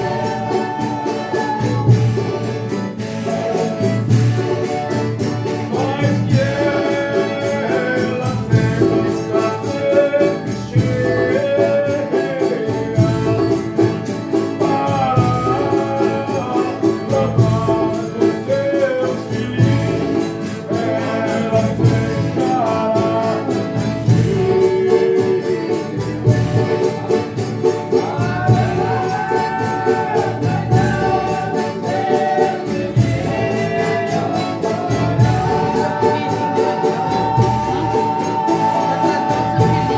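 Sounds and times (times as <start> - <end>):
group singing: 0.0 - 39.9
guitar: 0.0 - 39.9
tambourine: 0.0 - 39.9.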